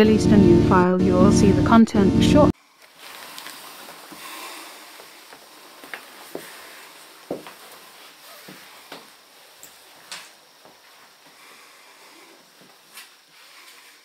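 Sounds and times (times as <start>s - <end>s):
faint room hiss: 2.5s - 14.0s
hanging clothes rustling: 2.6s - 14.0s.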